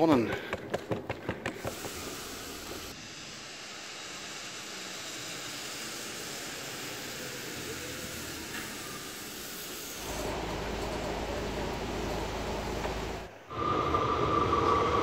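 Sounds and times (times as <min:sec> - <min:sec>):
road vehicle noise hiss: 0:01.4 - 0:15.0.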